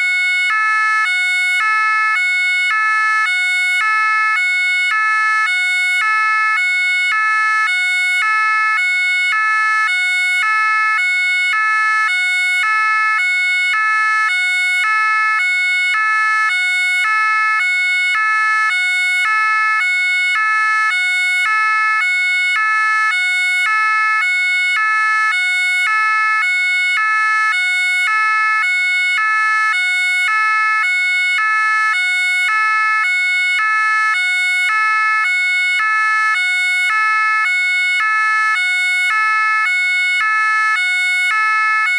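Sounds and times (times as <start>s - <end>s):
two-tone siren: 0.0s - 41.9s.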